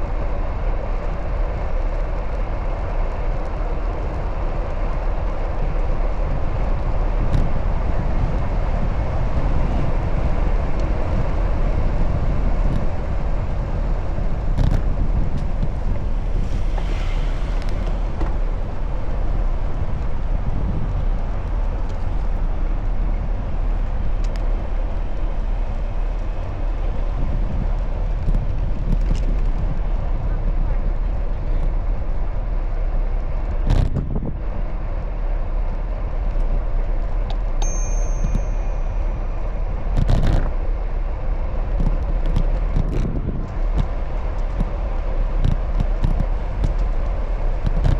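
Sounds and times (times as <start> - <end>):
road and traffic noise: 0.0 - 47.9
wind rush over microphone: 0.0 - 47.9.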